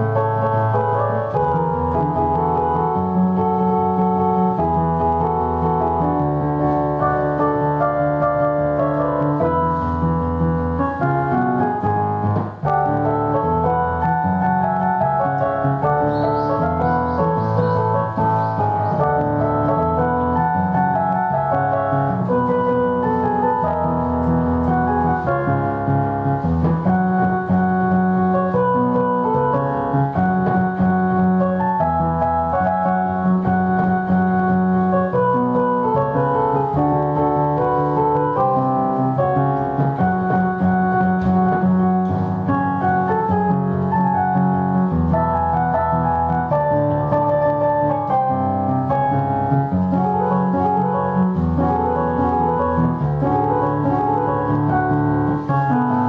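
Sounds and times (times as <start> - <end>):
electric piano pop melody: 0.0 - 56.0.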